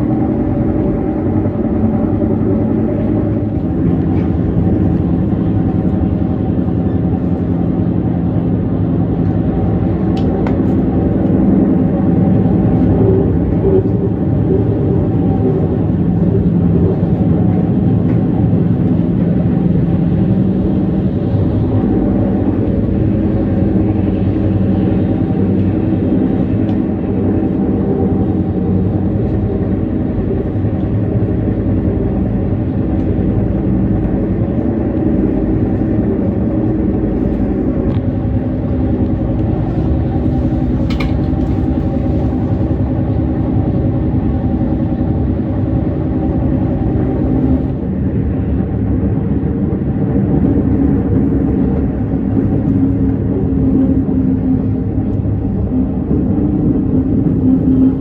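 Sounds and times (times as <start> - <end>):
constant hum: 0.0 - 58.0
train wheels rumbling on rails: 0.0 - 58.0.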